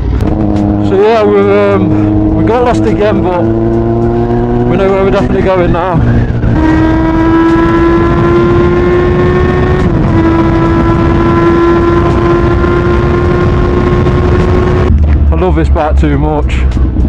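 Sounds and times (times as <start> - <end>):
gear upshift: 0.0 - 15.4
motorcycle engine accelerating: 0.0 - 17.0
wind rush: 0.0 - 17.0.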